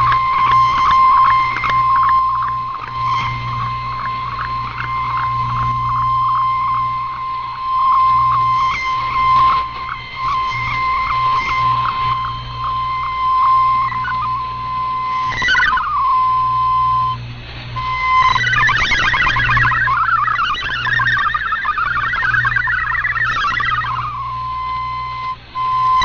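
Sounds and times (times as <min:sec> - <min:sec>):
falling tone sweep: 0:00.0 - 0:26.0
low steady hum: 0:00.0 - 0:26.0
rapidly hopping data warble: 0:00.0 - 0:26.0
steady tone with short pips: 0:00.0 - 0:26.0.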